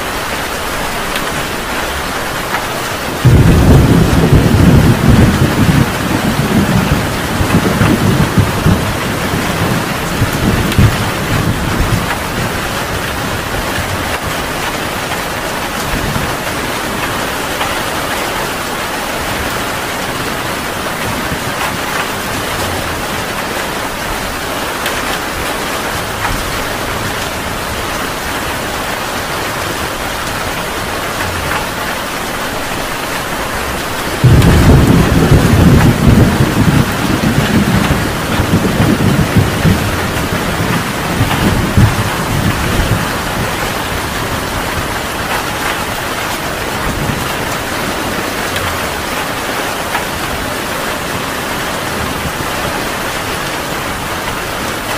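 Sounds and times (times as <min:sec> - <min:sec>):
heavy rain pouring: 0:00.0 - 0:54.9
thunder crack and rumble: 0:02.4 - 0:54.9.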